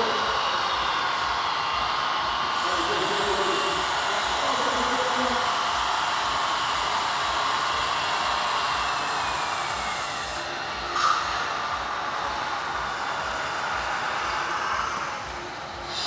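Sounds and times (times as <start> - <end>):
model truck whirring: 0.0 - 16.0.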